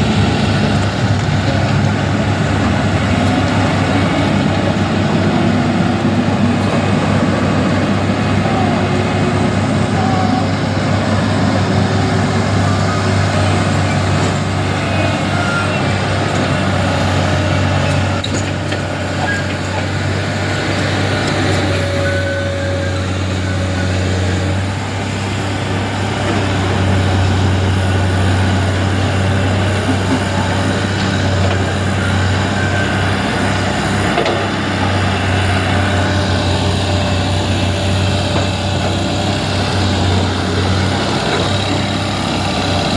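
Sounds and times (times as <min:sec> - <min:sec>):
traffic engine rumble: 0:00.0 - 0:42.9.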